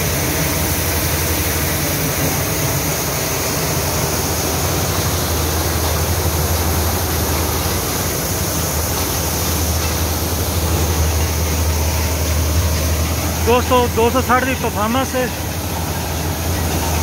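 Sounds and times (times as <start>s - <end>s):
diesel tractor engine humming: 0.0s - 17.0s
thresher hissing: 0.0s - 17.0s.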